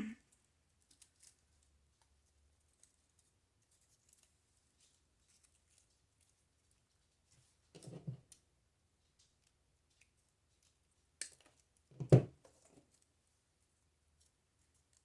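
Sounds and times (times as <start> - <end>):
rustle of craft materials: 0.2 - 15.0.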